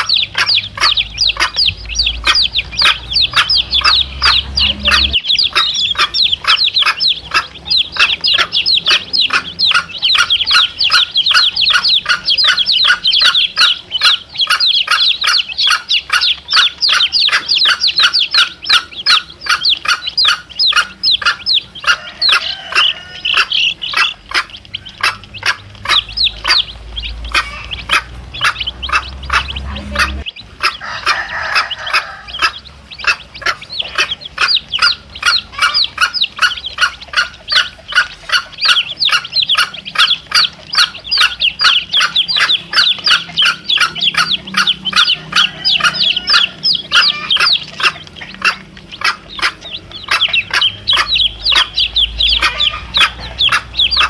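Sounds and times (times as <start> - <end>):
chicks peeping: 0.0 - 54.0
hen calling: 0.0 - 54.0.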